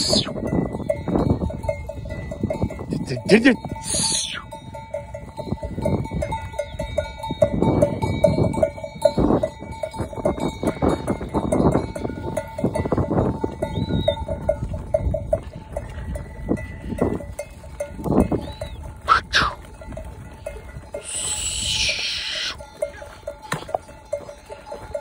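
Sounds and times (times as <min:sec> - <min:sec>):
sheep bells jingling: 0:00.0 - 0:25.0.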